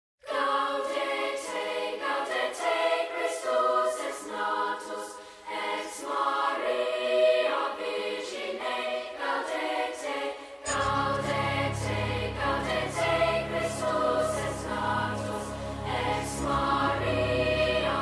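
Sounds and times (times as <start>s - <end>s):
choir singing: 0.2s - 18.0s.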